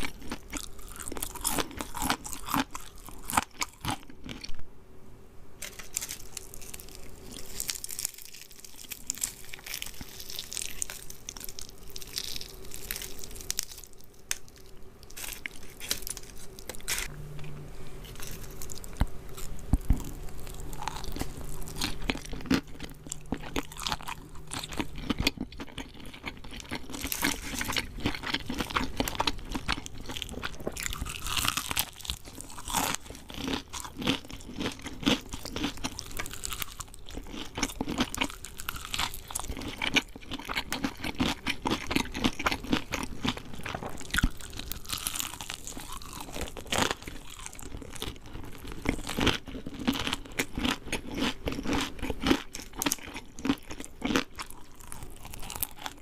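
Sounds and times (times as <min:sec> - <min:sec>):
crunching and chewing fried chicken: 0:00.0 - 0:04.6, 0:05.6 - 0:56.0
faint low hum: 0:00.0 - 0:56.0.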